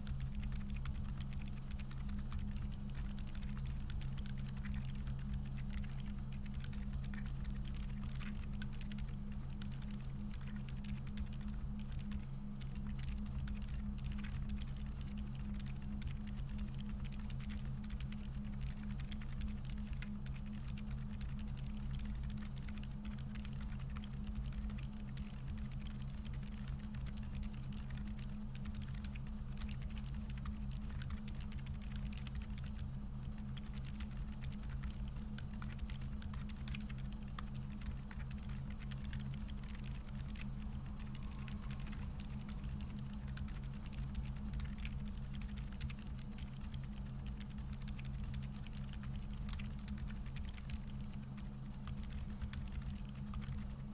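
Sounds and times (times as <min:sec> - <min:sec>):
muted keyboard keystrokes: 0:00.0 - 0:51.1, 0:51.8 - 0:53.7
low steady hum: 0:00.0 - 0:53.9.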